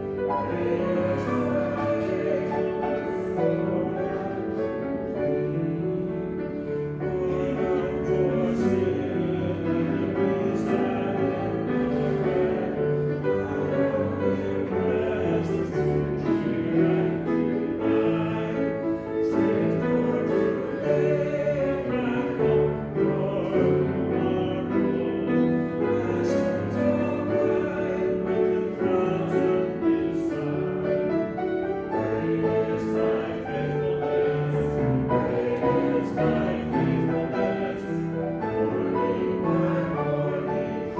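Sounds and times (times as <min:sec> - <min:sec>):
choir singing: 0:00.0 - 0:40.9
piano accompaniment: 0:00.0 - 0:40.9.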